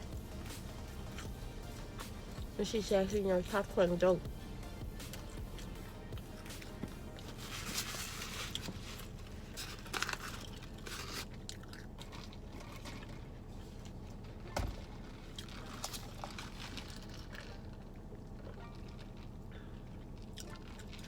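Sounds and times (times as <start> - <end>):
person chewing crunchy food: 0.0 - 2.6, 4.2 - 21.0.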